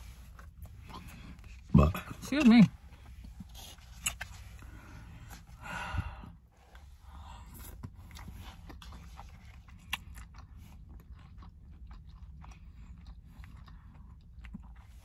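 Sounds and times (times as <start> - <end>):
person chewing food: 2.9 - 15.0.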